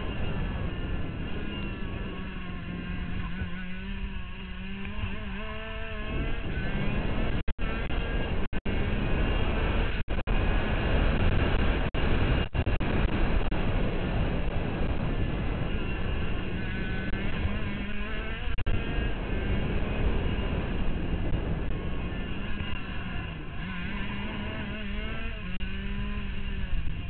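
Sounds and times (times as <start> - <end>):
kart engine accelerating: 0.0 - 27.0.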